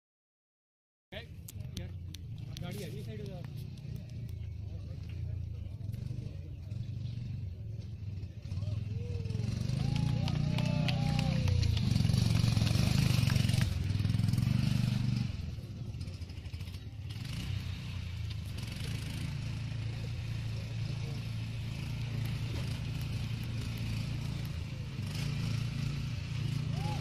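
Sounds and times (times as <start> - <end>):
buggy engine under throttle: 1.4 - 27.0.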